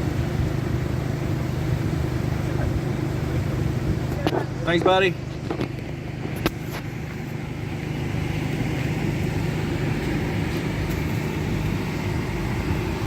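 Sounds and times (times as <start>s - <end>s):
road noise: 0.0s - 13.0s
vehicle engine droning: 0.0s - 13.0s.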